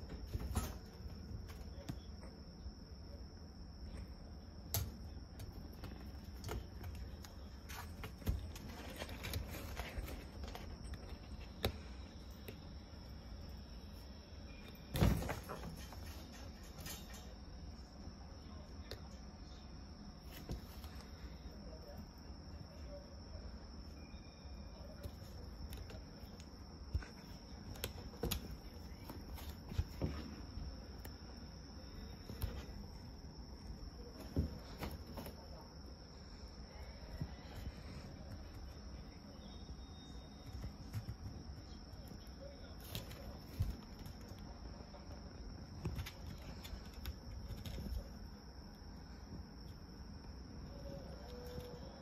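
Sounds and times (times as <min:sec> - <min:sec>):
faint high whine: 0:00.0 - 0:52.0.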